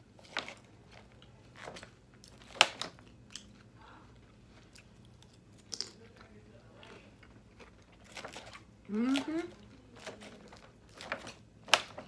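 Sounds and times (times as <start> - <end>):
chewing salad: 0.0 - 12.0.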